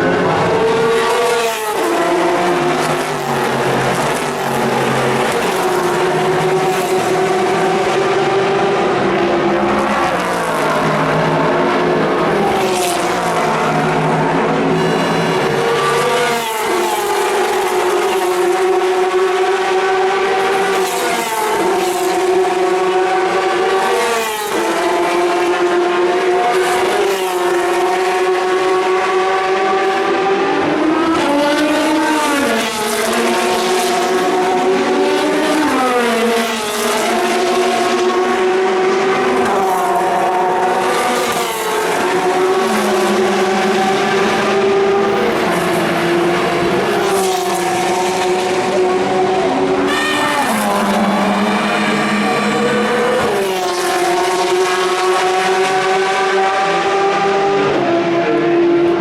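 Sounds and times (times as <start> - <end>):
racing car engines passing: 0.0 - 59.0.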